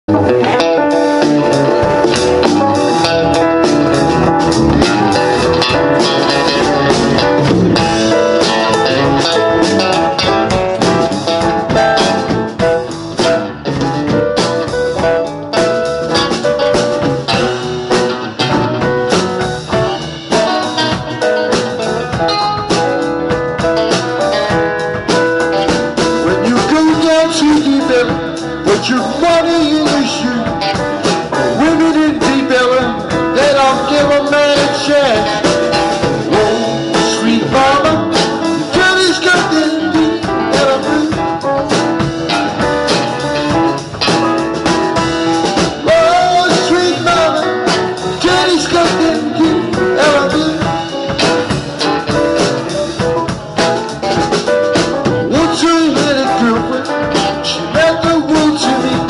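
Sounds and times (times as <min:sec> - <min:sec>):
bass guitar: 0:00.0 - 0:59.0
drum kit: 0:00.1 - 0:59.0
electric guitars: 0:00.1 - 0:59.0
keyboard: 0:00.1 - 0:59.0.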